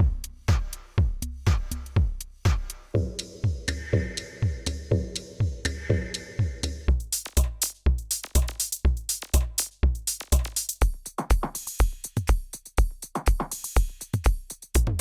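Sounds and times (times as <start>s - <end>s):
deep kick drum: 0.0s - 15.0s
hi-hats: 0.0s - 15.0s.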